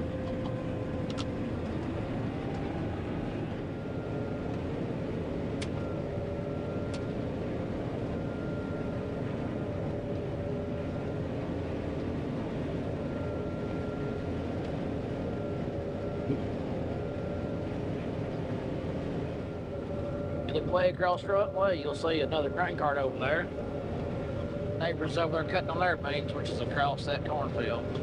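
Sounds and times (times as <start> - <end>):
combine harvester hum: 0.0 - 28.0
faint high whine: 0.0 - 28.0.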